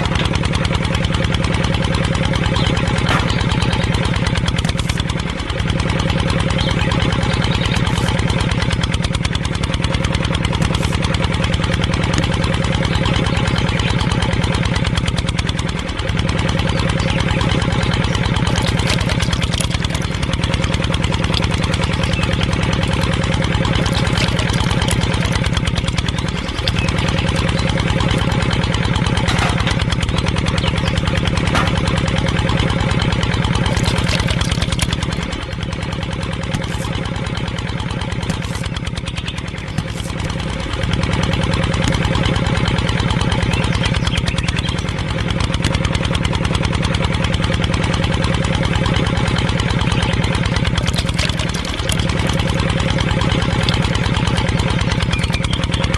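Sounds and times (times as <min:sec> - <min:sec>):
tractor motor droning: 0:00.0 - 0:55.9.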